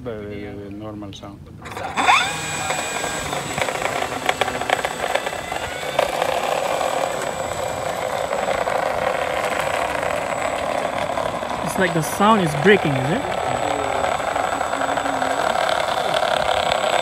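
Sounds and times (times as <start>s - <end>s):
crackly simulated plane engine: 1.6s - 17.0s
thin steady high tone: 2.0s - 17.0s.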